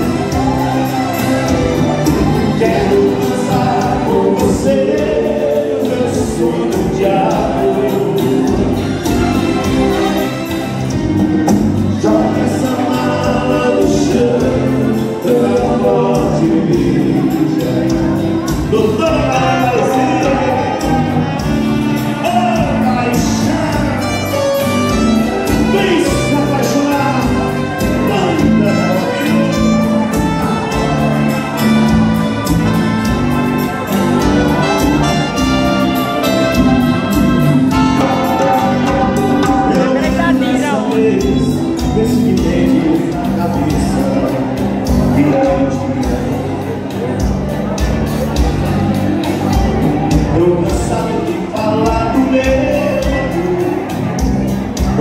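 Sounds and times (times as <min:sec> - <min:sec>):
dance band music: 0:00.0 - 0:55.0
person singing: 0:00.0 - 0:55.0.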